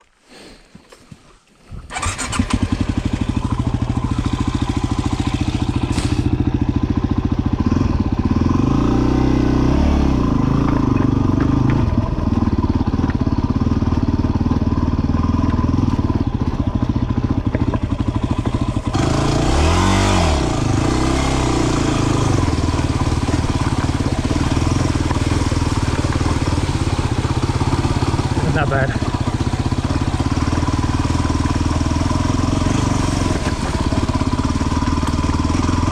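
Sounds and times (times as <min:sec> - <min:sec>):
motorcycle engine revving: 0:01.7 - 0:35.9.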